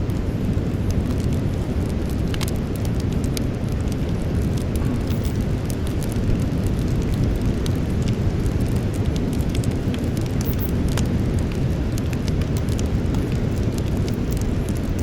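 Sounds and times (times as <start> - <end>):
burning wood crackling and popping: 0.0 - 15.0
campfire flames roaring: 0.0 - 15.0.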